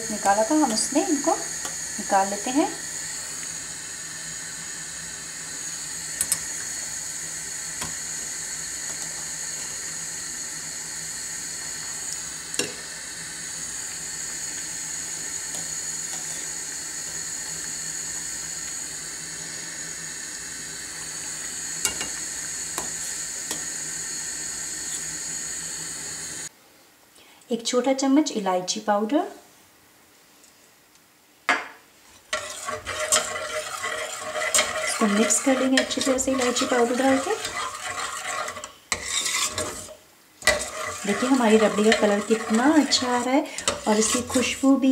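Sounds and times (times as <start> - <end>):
syrup boiling and bubbling: 0.0 - 26.5, 32.3 - 44.6.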